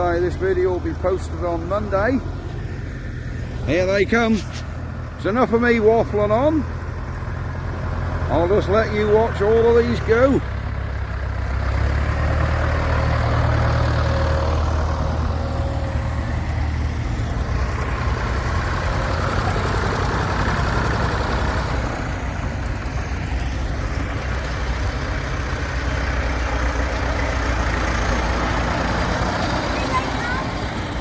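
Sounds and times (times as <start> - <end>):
tractor engines passing: 0.0 - 31.0.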